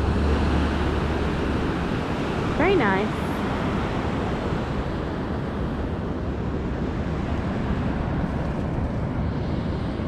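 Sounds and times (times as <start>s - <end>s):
ocean surf on beach: 0.0s - 10.0s.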